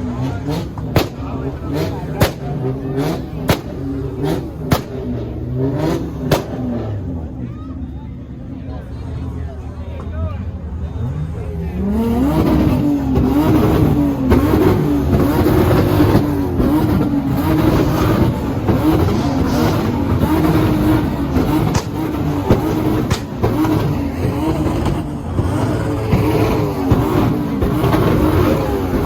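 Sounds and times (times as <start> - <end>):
car engine revving on limiter: 0.0 - 7.2, 11.1 - 29.0
sharp exhaust cracks: 0.1 - 6.8, 12.4 - 29.0.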